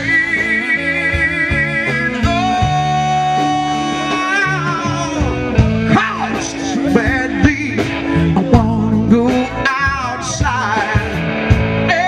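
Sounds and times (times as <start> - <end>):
person singing: 0.0 - 11.2, 11.8 - 12.0
live band playing soul ballad: 0.0 - 12.0
steady bass: 0.0 - 12.0.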